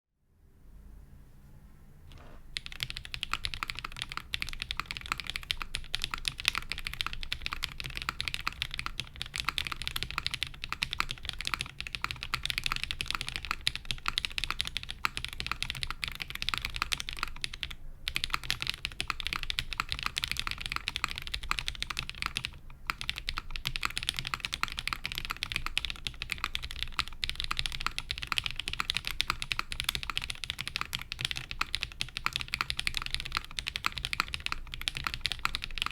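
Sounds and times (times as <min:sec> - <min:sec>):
mechanical keyboard typing: 0:02.1 - 0:35.9.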